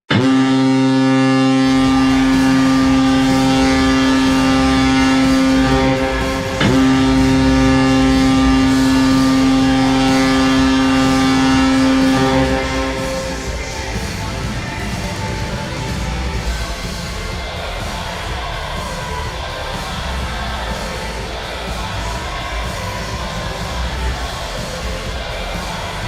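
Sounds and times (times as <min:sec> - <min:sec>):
deep goal horn blast: 0:00.0 - 0:25.9.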